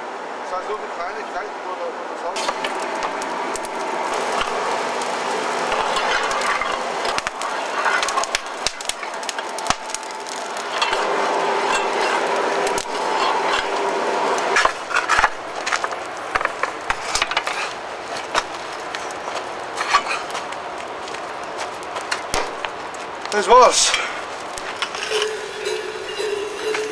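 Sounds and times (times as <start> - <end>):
forge fire rushing: 0.6 - 26.9
coal crackling and popping: 2.2 - 26.9.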